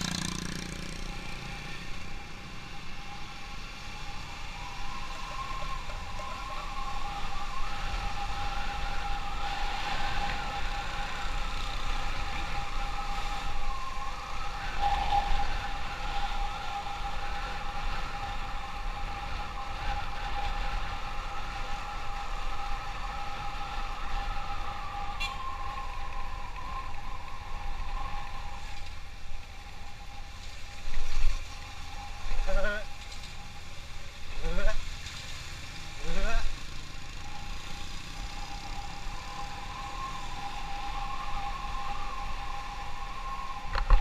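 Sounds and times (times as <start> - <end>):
motorcycle riding: 0.0 - 30.4, 31.4 - 44.0
steady high whine: 0.0 - 44.0
wind rumble on microphone: 0.0 - 44.0.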